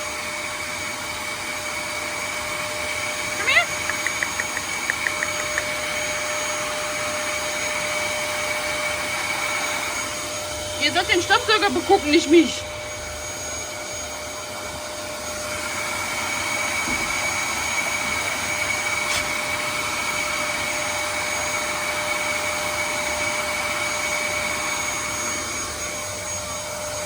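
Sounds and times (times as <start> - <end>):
vacuum cleaner whining: 0.0 - 27.0.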